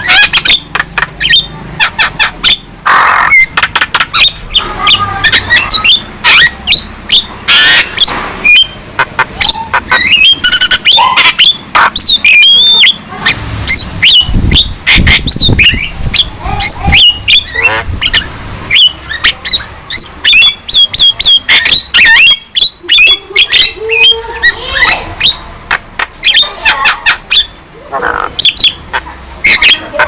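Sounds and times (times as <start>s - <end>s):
myna singing whistles and squawks: 0.0s - 25.5s, 26.2s - 30.0s.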